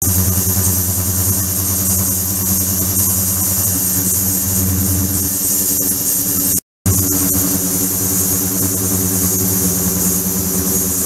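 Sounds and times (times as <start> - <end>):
ultrasonic cleaner humming: 0.0 - 11.0.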